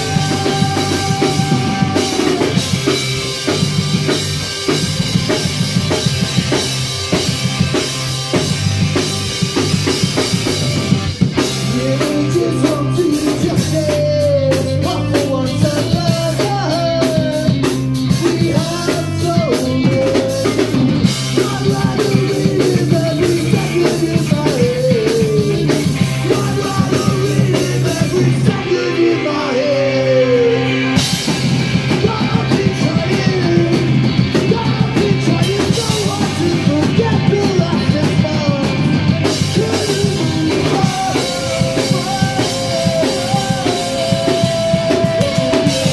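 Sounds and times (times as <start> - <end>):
person singing: 0.0 - 3.6, 11.4 - 31.0, 31.9 - 45.9
bass guitar: 0.0 - 45.9
distorted electric guitars: 0.0 - 45.9
drum kit with cymbals: 0.0 - 45.9.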